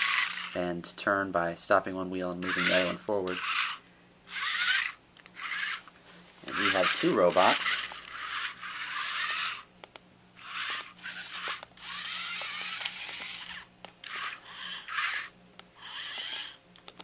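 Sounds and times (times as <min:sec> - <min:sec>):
small gear motors whirring: 0:00.0 - 0:00.6, 0:02.4 - 0:05.9, 0:06.5 - 0:09.7, 0:10.4 - 0:17.0.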